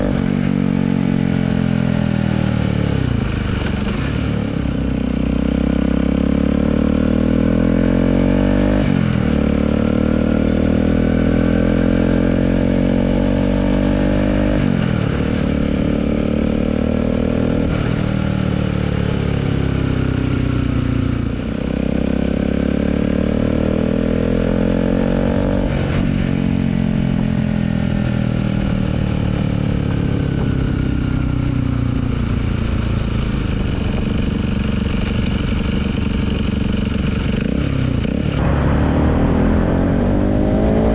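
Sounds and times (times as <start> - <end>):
motorcycle engine revving through gears: 0.0 - 40.9.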